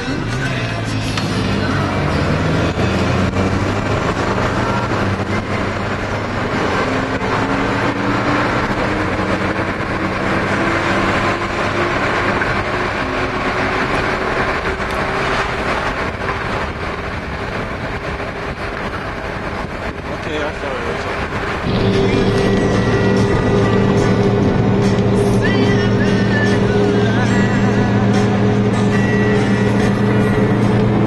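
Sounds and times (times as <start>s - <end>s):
engine note climbing in pitch: 0.0s - 17.4s, 21.4s - 31.0s
vehicle engine and road noise: 0.0s - 31.0s.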